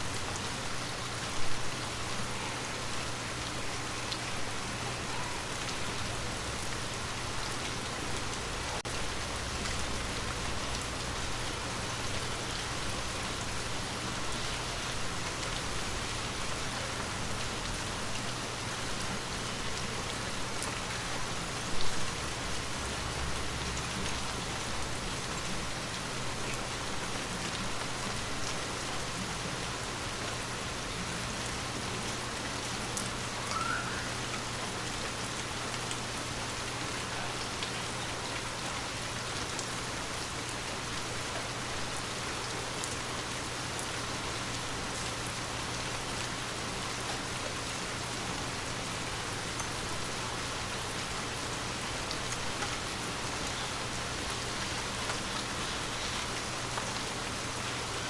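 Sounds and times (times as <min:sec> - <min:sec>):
rain on a window pane: 0:00.0 - 0:58.0.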